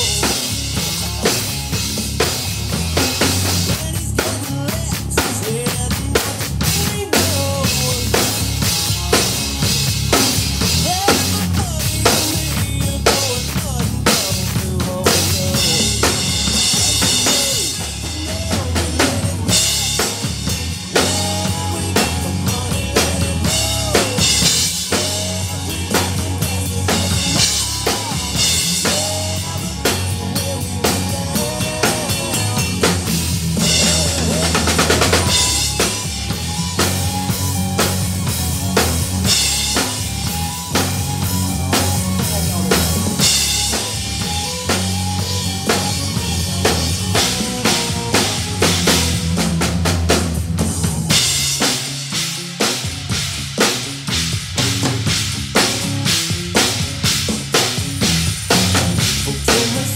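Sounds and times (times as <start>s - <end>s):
man singing: 0.0s - 1.4s, 3.2s - 49.4s, 59.0s - 59.9s
bass guitar: 0.0s - 59.9s
drum kit rock beat: 0.0s - 59.9s
recorded country-rock song: 0.0s - 59.9s.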